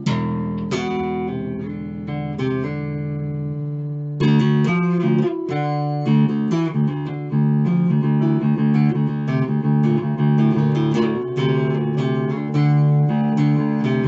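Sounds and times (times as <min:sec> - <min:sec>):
electric bass picked notes: 0:00.0 - 0:14.0.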